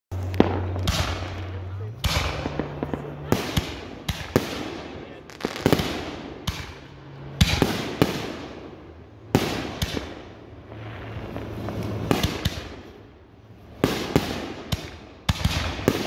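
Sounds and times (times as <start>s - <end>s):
firework bangs: 0.1s - 16.0s
firework crackle: 0.1s - 16.0s.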